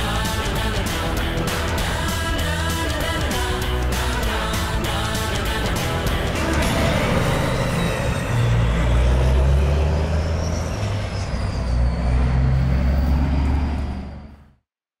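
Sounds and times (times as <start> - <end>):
heavy truck engine rumbling: 0.0 - 14.6.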